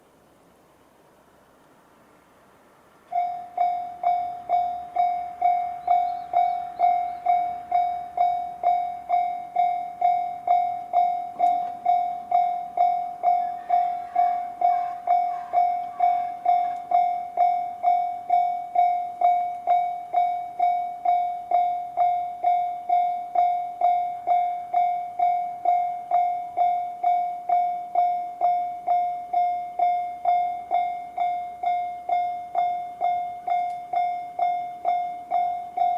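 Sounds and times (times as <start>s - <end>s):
faint electric train passing: 0.0s - 35.9s
level crossing alarm ringing: 3.1s - 35.9s.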